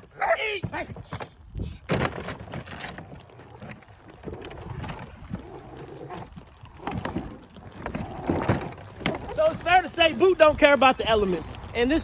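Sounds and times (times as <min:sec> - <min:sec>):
rain: 0:00.0 - 0:12.0
rustles: 0:00.0 - 0:12.0
wind noise on microphone: 0:00.6 - 0:12.0.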